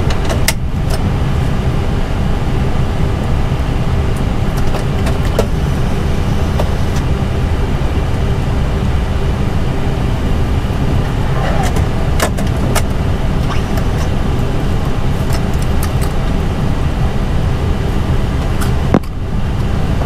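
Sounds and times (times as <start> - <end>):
air conditioning rumble: 0.0 - 20.0.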